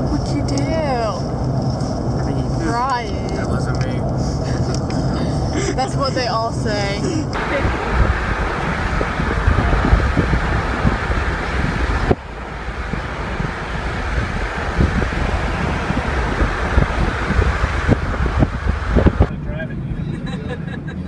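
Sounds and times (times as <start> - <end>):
wind noise on microphone: 0.0 - 19.4
tyre and road rumble: 0.0 - 21.0.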